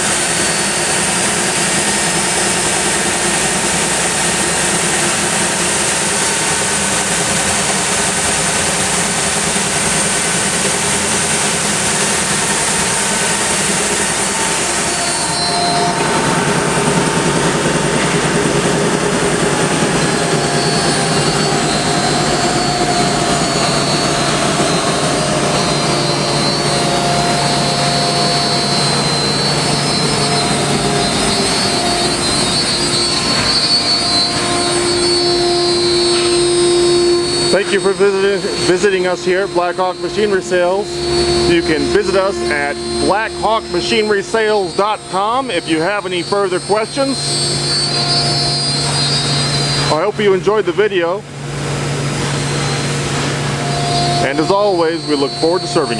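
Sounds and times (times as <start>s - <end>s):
low hum and steady tones: 0.0s - 55.9s
widebelt sander whirring: 0.0s - 55.9s.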